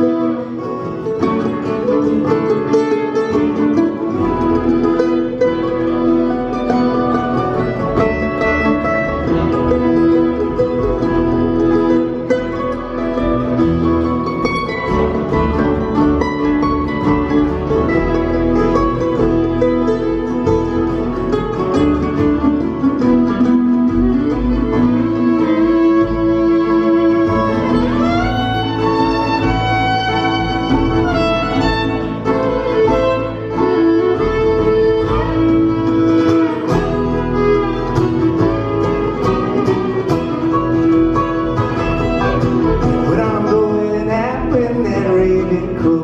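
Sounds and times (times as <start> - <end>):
bluegrass band playing: 0.0 - 46.0
fiddle with sliding notes: 0.0 - 46.0.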